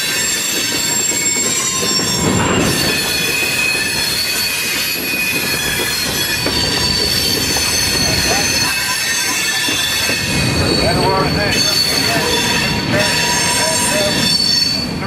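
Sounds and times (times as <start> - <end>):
low rumble of train cars: 0.0 - 15.0
train wheels squealing on rails: 0.0 - 15.0.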